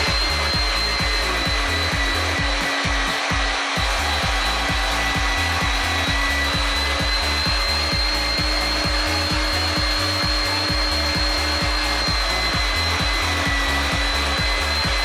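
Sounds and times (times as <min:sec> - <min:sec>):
background music with bass beat: 0:00.0 - 0:15.0
meat grinder motor whining: 0:00.0 - 0:15.0.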